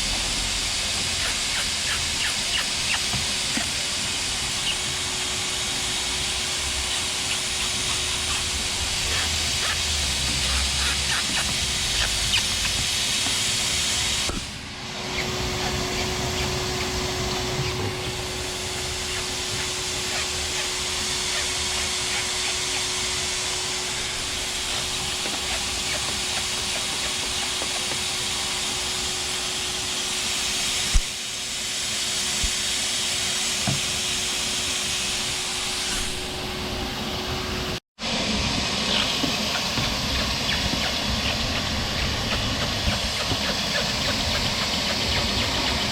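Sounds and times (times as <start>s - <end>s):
shop vac motor whining: 0.0s - 45.9s.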